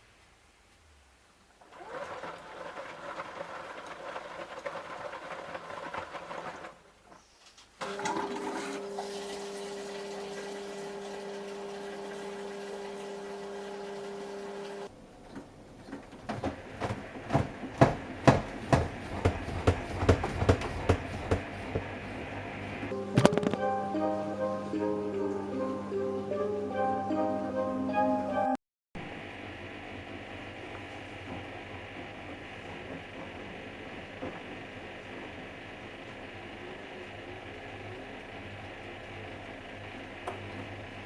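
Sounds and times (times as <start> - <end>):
washing machine running: 1.7 - 6.8, 7.8 - 24.0, 29.1 - 41.0.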